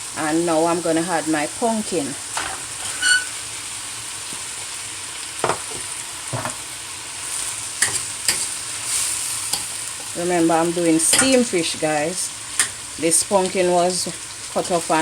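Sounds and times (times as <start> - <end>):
seasoning sizzling in hot oil: 0.0 - 15.0.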